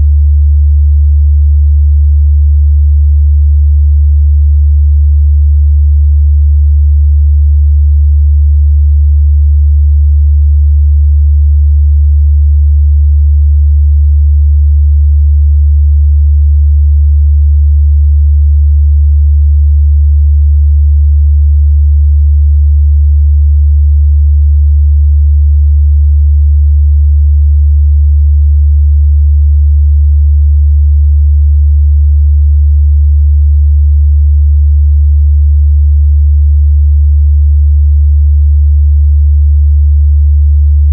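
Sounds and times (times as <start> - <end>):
low sine-wave test tone: 0.0 - 40.9.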